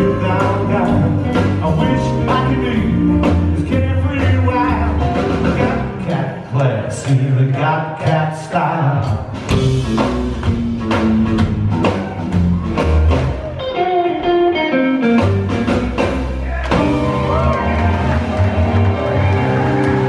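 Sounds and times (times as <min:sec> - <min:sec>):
live rockabilly band playing: 0:00.0 - 0:07.4, 0:08.0 - 0:20.0.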